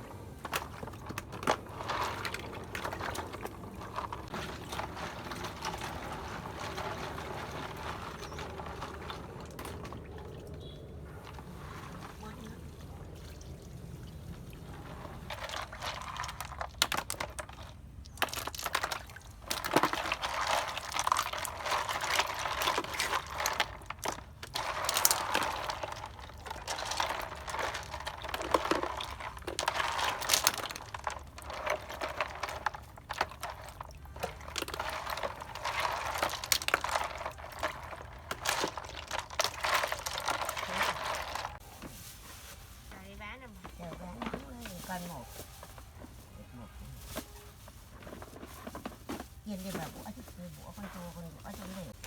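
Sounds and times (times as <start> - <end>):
water splashing and sloshing: 0.0 - 52.0.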